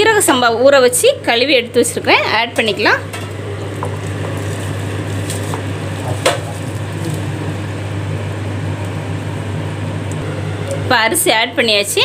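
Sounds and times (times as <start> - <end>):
low hum: 2.3 - 12.0.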